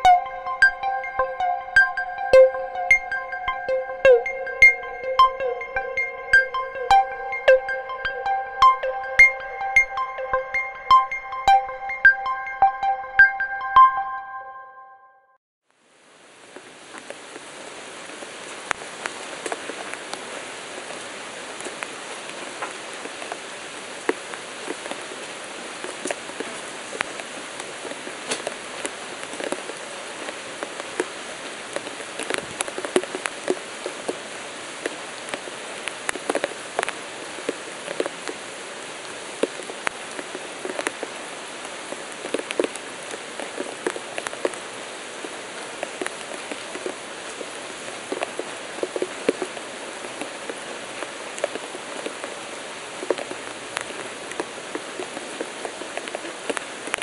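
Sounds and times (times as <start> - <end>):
rain pattering: 0.0 - 13.8, 15.7 - 57.0.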